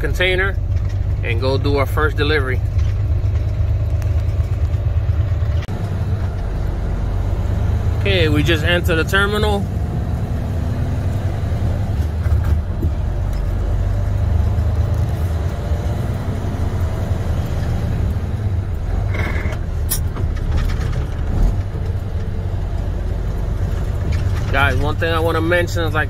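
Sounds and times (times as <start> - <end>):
diesel engine running at low speed: 0.0 - 26.0.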